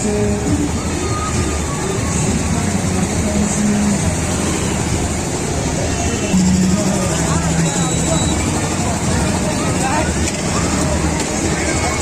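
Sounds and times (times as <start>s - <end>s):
music playing: 0.0s - 12.0s
road traffic: 0.0s - 12.0s.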